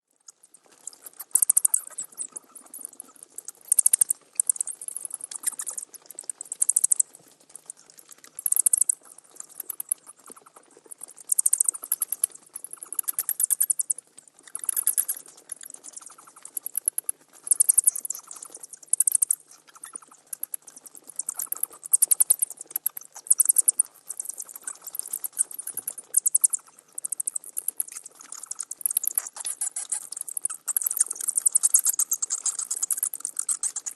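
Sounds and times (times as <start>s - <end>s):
bats squeaking and chattering: 0.3s - 33.9s.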